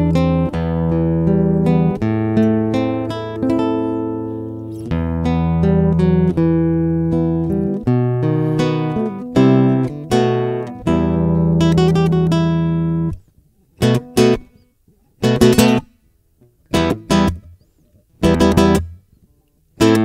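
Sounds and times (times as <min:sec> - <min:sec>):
acoustic guitar strumming: 0:00.0 - 0:16.0, 0:16.7 - 0:19.1, 0:19.8 - 0:20.0.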